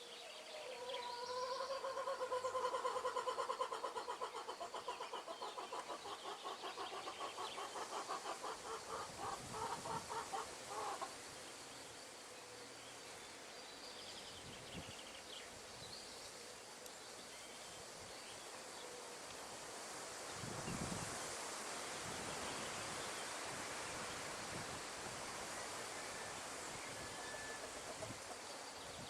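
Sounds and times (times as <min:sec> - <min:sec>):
wind rustling trees: 0:00.0 - 0:29.0.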